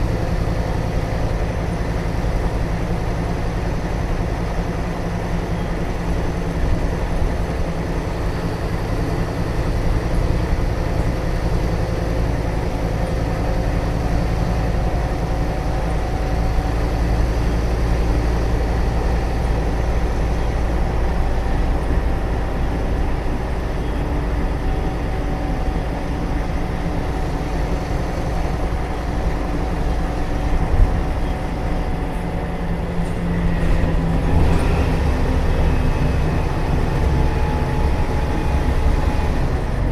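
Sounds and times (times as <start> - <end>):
bus diesel engine rumbling: 0.0 - 39.9
road noise: 0.0 - 39.9.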